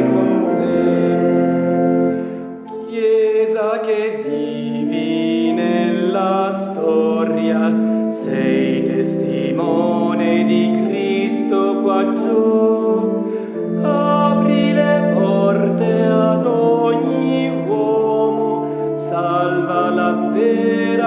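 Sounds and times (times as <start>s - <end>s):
church singing: 0.0s - 21.0s
sustained accompanying chords: 0.0s - 21.0s.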